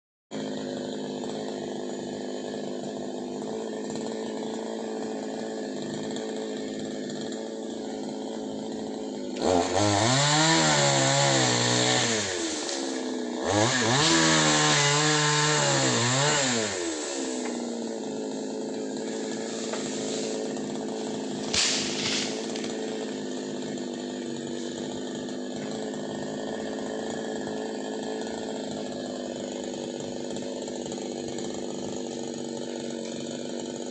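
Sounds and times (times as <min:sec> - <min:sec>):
chainsaw idling and revving: 0:00.3 - 0:33.9
chainsaw cutting branch: 0:00.4 - 0:33.9.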